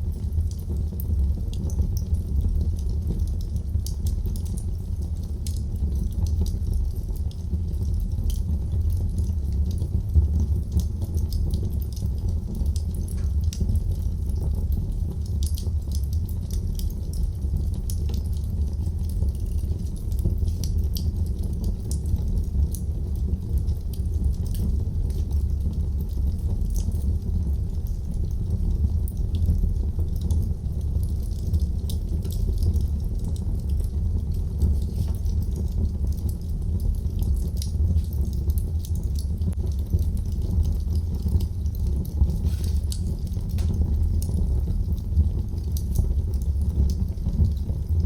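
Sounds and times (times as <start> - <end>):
fire crackles and pops: 0.0 - 48.0
low rumble of flames: 0.0 - 48.0.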